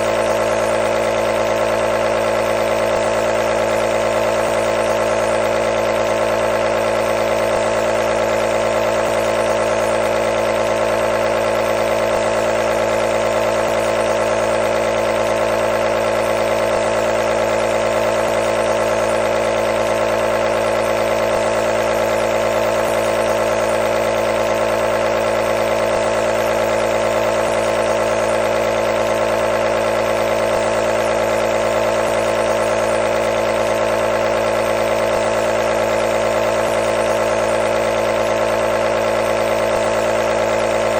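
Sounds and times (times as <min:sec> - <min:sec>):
nebulizer motor buzzing: 0:00.0 - 0:40.9.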